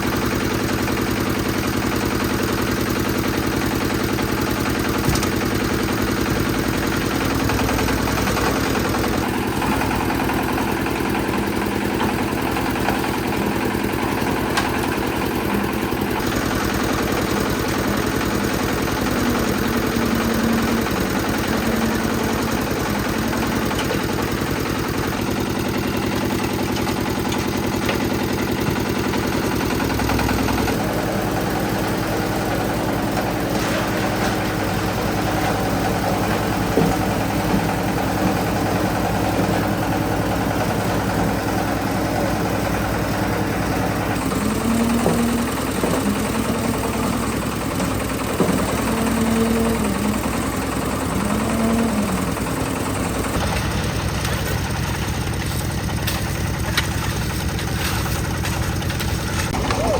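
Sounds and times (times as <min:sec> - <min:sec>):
concrete mixer engine running: 0:00.0 - 0:59.9.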